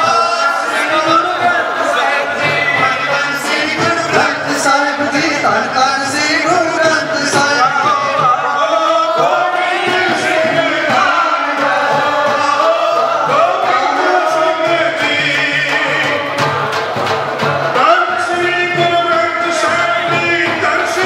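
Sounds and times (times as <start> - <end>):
chorus singing devotional hymn: 0.0 - 21.0
musical accompaniment: 0.0 - 21.0.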